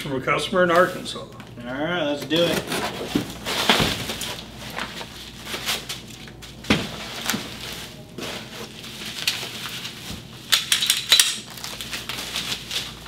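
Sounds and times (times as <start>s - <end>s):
plastic wrapping rustling: 2.2s - 13.0s.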